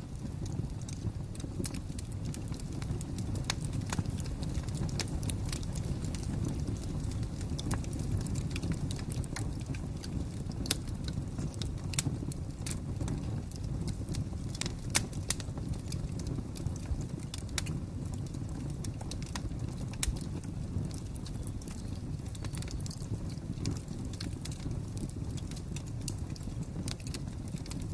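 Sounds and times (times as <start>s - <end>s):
rumble of flames: 0.0s - 27.9s
wood fire crackling: 0.0s - 27.9s.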